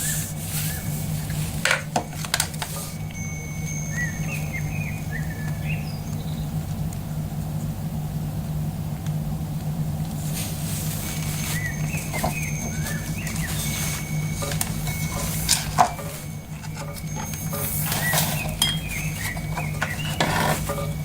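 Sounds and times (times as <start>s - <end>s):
birds chirping: 0.0s - 8.5s, 9.6s - 21.0s
steady low hum: 0.0s - 21.0s.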